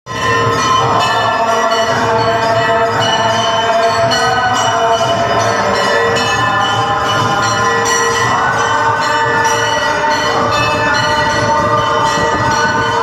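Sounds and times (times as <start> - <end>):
bells ringing: 0.1 - 13.0.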